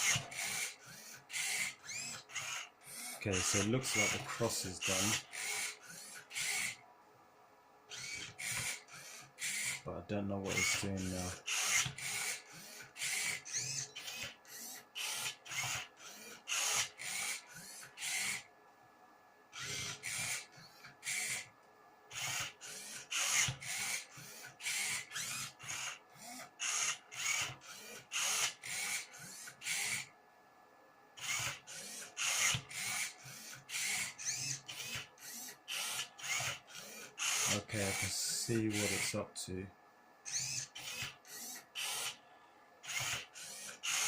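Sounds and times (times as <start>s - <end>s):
robot motors whirring: 0.0s - 6.8s, 7.9s - 18.5s, 19.6s - 21.5s, 22.1s - 30.1s, 31.2s - 39.2s, 40.2s - 42.2s, 42.8s - 44.0s.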